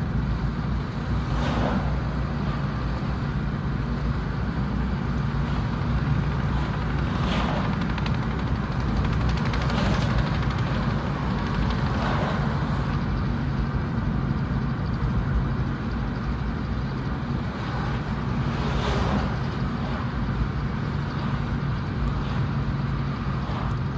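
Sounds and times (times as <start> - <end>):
diesel engine rumbling: 0.0 - 23.9.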